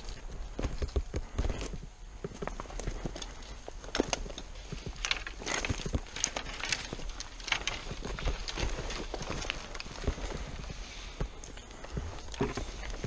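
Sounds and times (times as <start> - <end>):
footsteps on gravel and twigs: 0.0 - 13.0.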